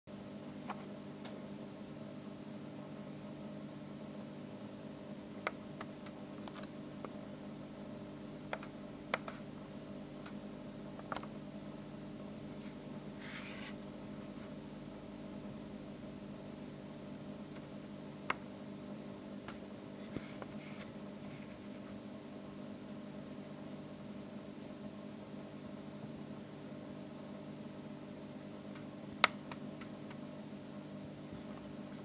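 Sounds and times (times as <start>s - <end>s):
steady low hum: 0.1s - 32.0s.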